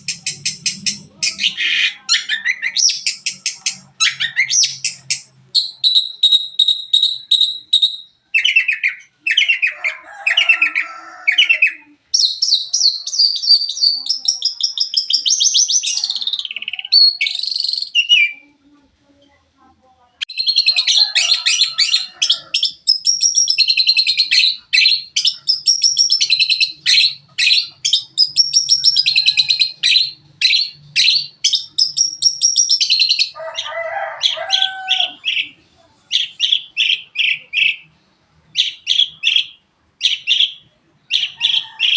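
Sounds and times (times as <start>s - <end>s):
bird singing chirps and trills: 0.0s - 9.8s, 11.4s - 18.6s, 20.3s - 33.4s, 34.3s - 37.9s, 38.6s - 41.9s.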